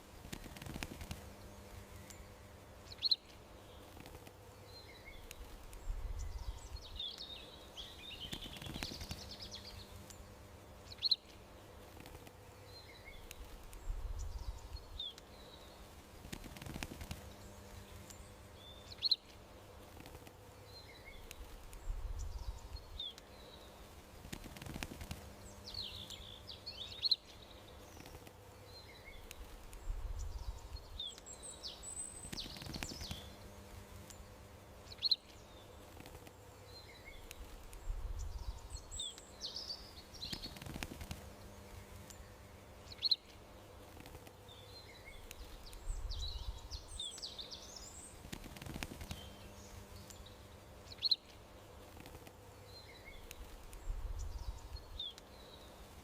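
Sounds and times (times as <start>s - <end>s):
faint outdoor background: 0.0s - 56.0s
songbirds chirping and twittering: 0.0s - 56.0s.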